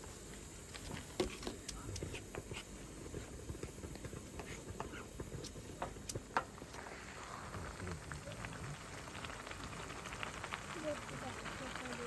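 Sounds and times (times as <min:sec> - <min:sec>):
faint rain hiss: 0:00.0 - 0:12.0
light rain drops ticking: 0:00.0 - 0:12.0.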